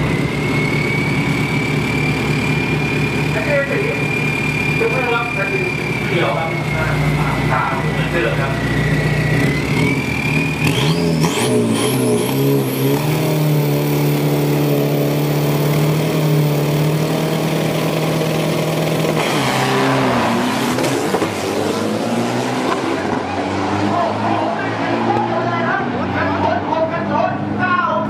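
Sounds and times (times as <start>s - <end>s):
pickup engines revving: 0.0s - 28.0s.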